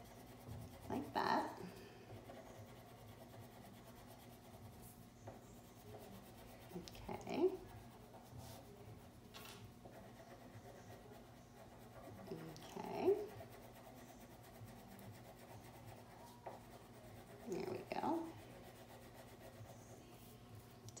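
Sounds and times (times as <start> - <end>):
crayon scribbling on paper: 0.0 - 9.2, 9.8 - 20.4.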